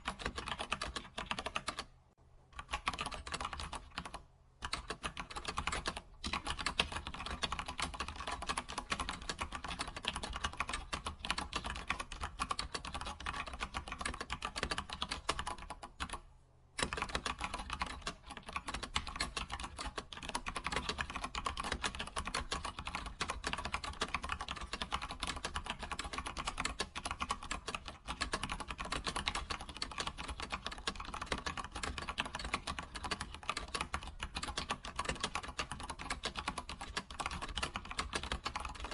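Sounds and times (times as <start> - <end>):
computer keyboard typing: 0.0 - 1.9, 2.6 - 38.9.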